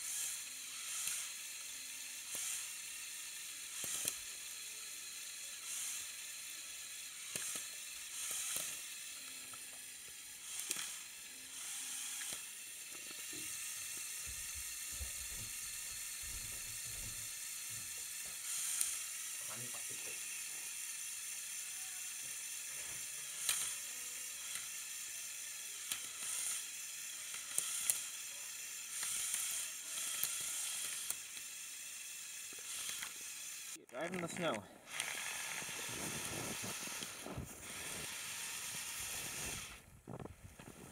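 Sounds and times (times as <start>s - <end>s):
electric motors and gears whirring: 0.0s - 40.9s.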